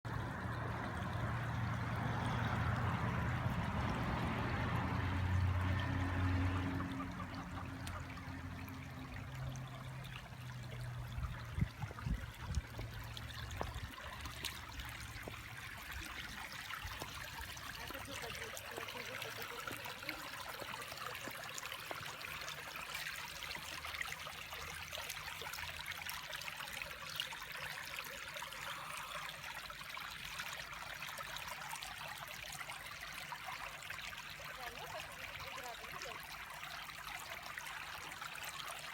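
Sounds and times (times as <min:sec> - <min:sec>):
flowing water rushing: 0:00.1 - 0:38.9.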